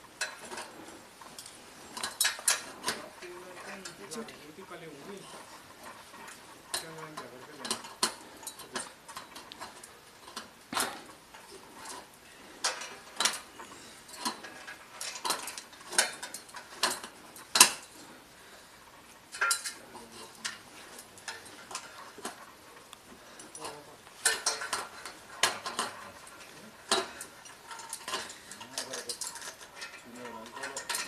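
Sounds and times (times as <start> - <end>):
crampons clanking on metal rungs: 0.0 - 31.0.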